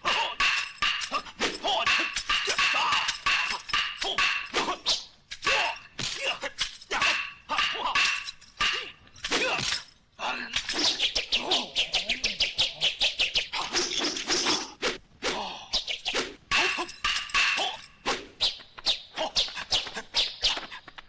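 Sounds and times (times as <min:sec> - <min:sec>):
wooden weapons clacking: 0:00.0 - 0:14.8, 0:16.0 - 0:20.7.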